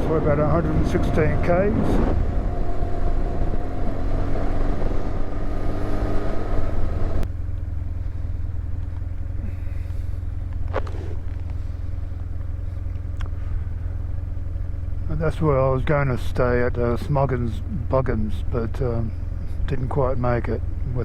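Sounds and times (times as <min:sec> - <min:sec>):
motorcycle engine running: 0:00.0 - 0:21.0
road noise: 0:00.0 - 0:21.0.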